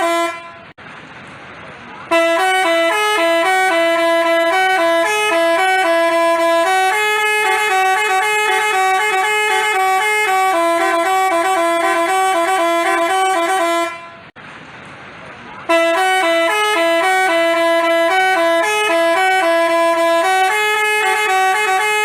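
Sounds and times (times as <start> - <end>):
musical bus horn melody: 0.0 - 0.8, 2.0 - 14.4, 15.7 - 22.0.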